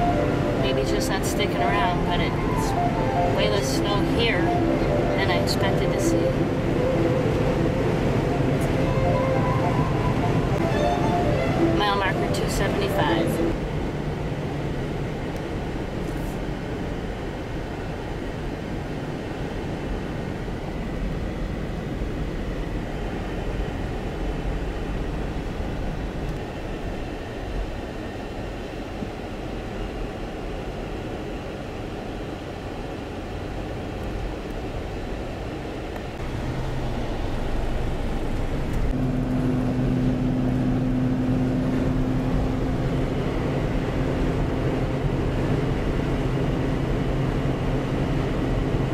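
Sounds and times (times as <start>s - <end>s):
car interior road noise: 0.0s - 48.9s
steady low hum: 0.0s - 48.9s.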